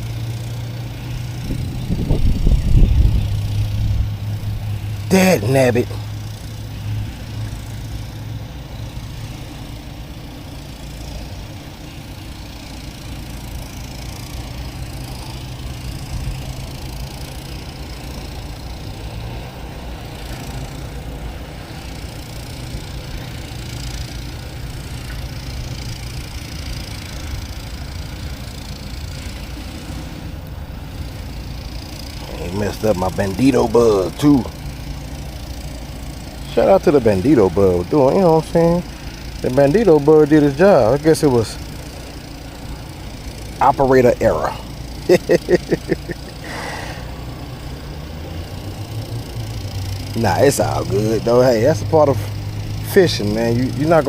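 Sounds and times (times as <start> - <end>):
distant road traffic rumble: 0.0 - 54.0.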